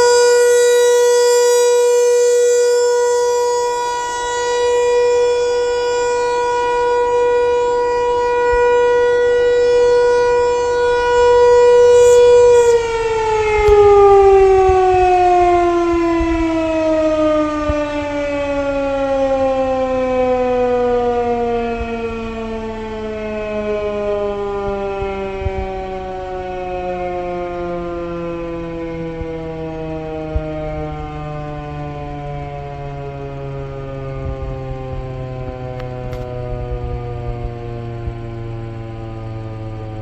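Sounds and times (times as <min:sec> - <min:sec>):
warning siren winding down: 0:00.0 - 0:40.0.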